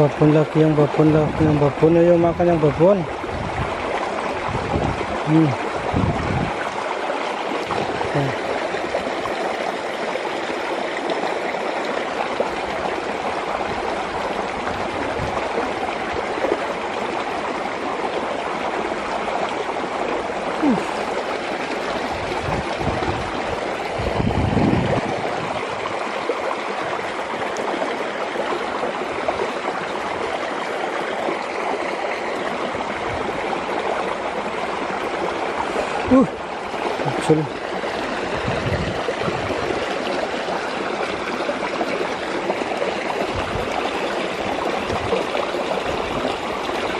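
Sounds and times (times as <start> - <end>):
stream rushing over rocks: 0.0 - 46.9.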